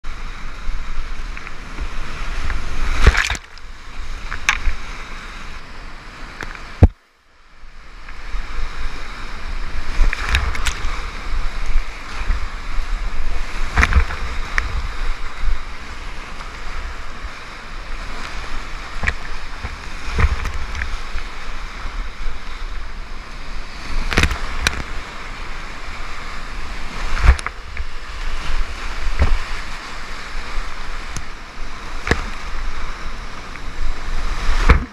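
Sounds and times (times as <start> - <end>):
whitewater rushing: 0.1 - 7.0, 7.6 - 34.9
water splashing on camera: 0.4 - 5.6, 8.0 - 34.9.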